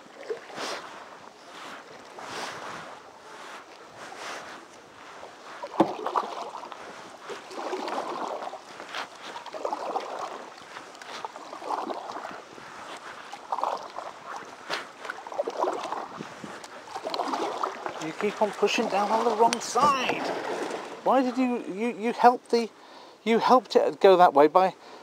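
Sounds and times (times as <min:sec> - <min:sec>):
paddles splashing in water: 0:00.0 - 0:23.5.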